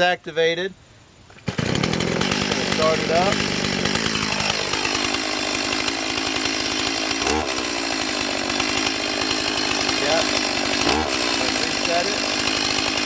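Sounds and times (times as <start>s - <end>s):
chainsaw idling: 1.4s - 13.0s
chainsaw revving: 1.4s - 13.0s.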